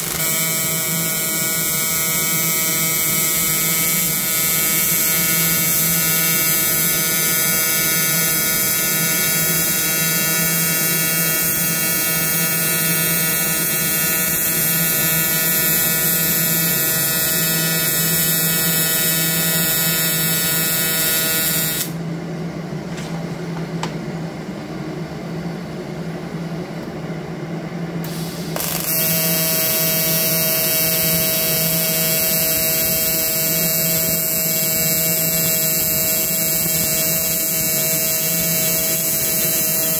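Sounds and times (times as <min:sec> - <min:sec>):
welding arc buzzing: 0:00.0 - 0:22.0, 0:28.0 - 0:39.9.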